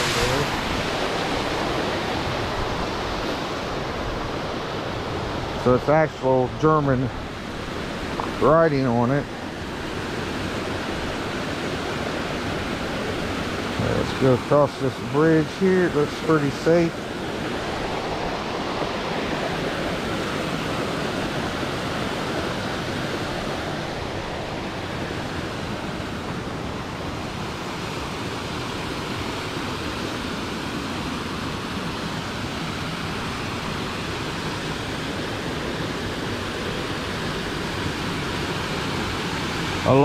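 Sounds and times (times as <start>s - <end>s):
water rushing over spillway: 0.0s - 40.0s.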